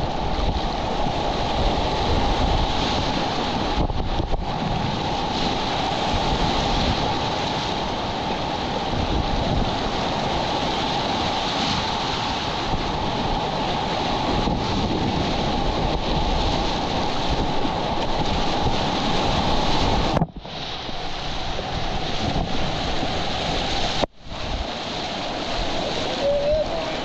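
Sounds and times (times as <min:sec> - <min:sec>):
whitewater rapids rushing: 0:00.0 - 0:27.0
wind buffeting the microphone: 0:00.0 - 0:27.0.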